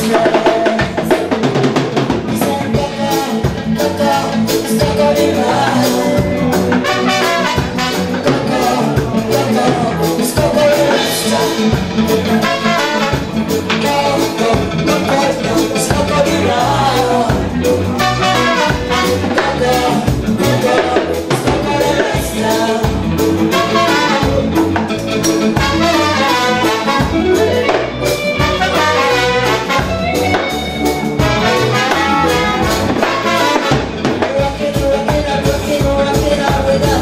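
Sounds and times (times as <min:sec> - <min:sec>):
horn lines: 0:00.0 - 0:34.7
live fusion band playing: 0:00.0 - 0:37.0.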